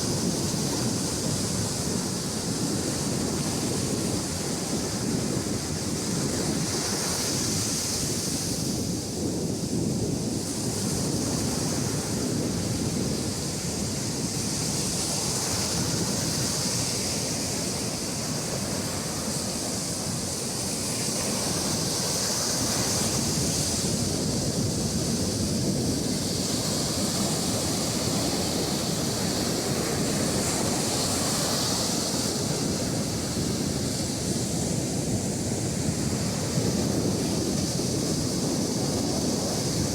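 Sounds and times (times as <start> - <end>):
sea surf washing on beach: 0.0 - 39.9.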